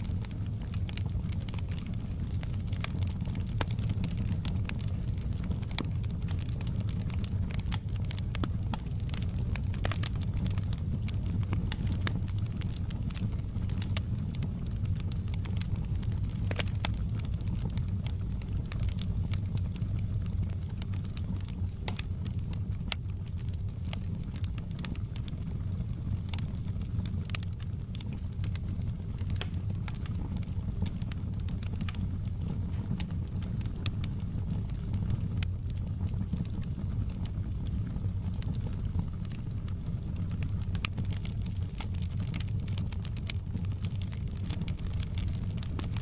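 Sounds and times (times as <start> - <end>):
fire crackling and popping: 0.0 - 46.0
fire rumbling: 0.0 - 46.0.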